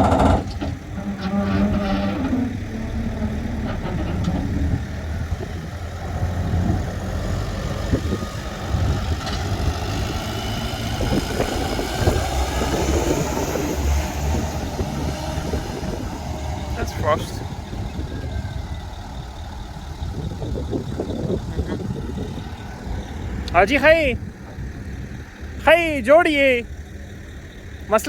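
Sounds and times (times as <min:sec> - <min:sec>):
road roller engine running: 0:00.0 - 0:28.0.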